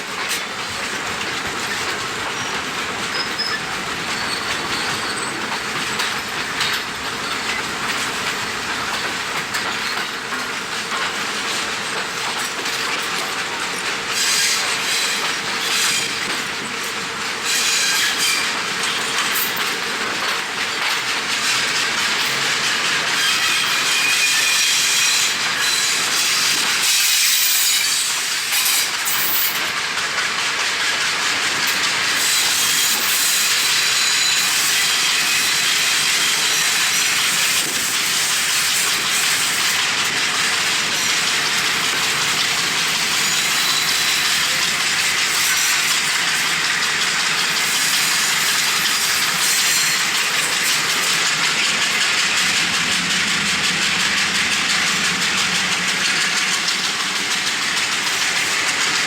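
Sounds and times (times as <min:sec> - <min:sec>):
passenger train running: 0:00.0 - 0:59.0.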